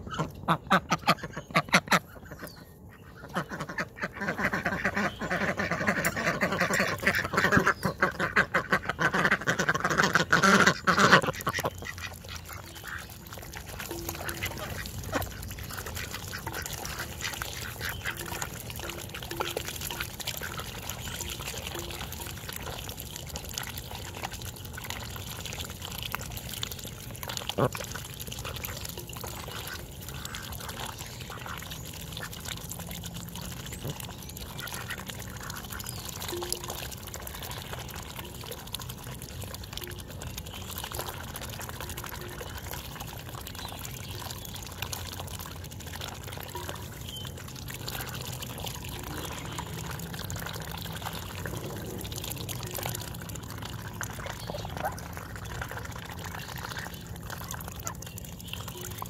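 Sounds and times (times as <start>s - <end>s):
ducks slurping and splashing water: 0.0s - 59.0s.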